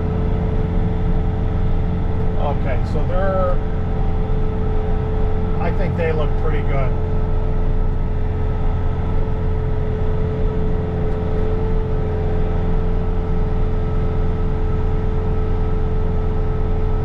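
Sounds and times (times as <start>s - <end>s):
diesel engine running at high revs: 0.0s - 17.0s
snow blower whine: 0.0s - 17.0s.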